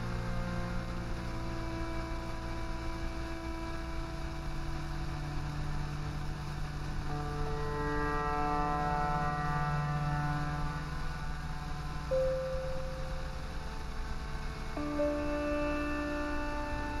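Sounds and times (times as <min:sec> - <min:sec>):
ambient electronic drone music: 0:00.0 - 0:17.0.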